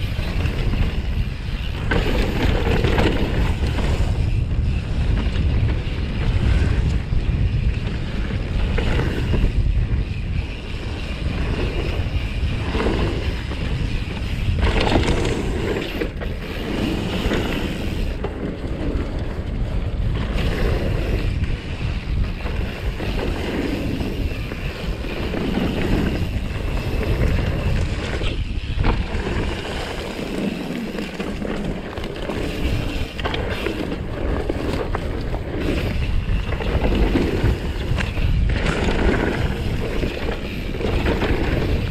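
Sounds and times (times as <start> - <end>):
bike knocking and rattling: 0.0 - 41.9
bike tyres rumbling over ground: 0.0 - 41.9
wind buffeting microphone: 0.0 - 41.9.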